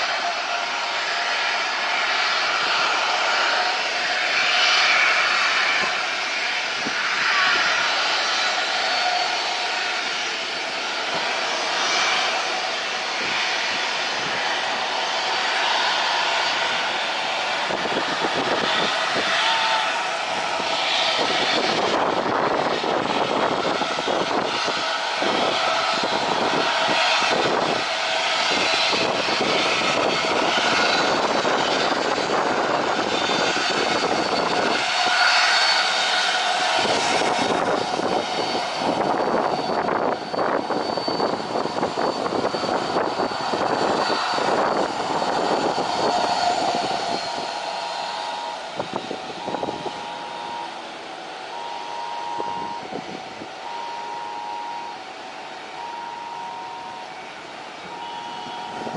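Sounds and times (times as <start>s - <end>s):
jet engines roaring with whine: 0.0s - 58.9s.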